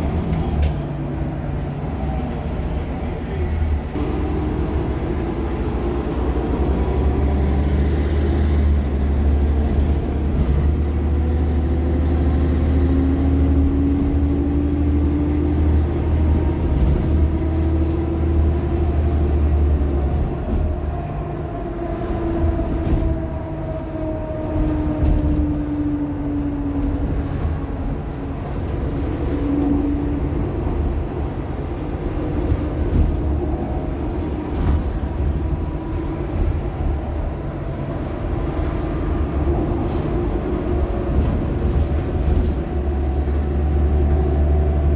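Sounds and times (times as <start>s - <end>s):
bus engine drone: 0.0s - 44.9s.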